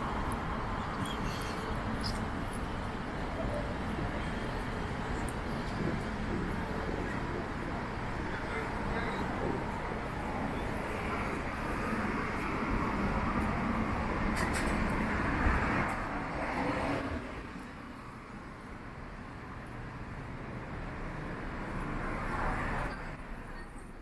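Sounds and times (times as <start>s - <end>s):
street ambience: 0.0s - 24.0s.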